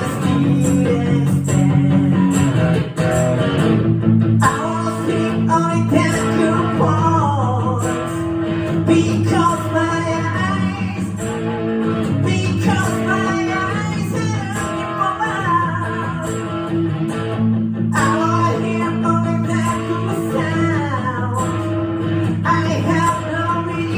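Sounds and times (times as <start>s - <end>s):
man singing: 0.0s - 3.3s, 4.4s - 16.9s, 17.9s - 23.9s
guitar strumming: 0.0s - 23.9s.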